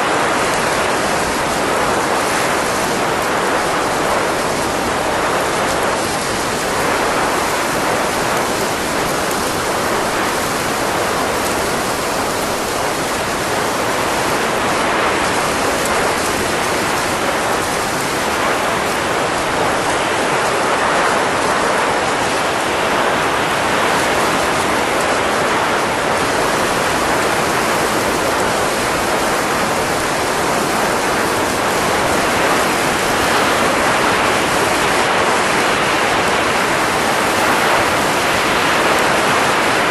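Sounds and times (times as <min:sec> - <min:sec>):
steady rushing air noise: 0:00.0 - 0:39.9.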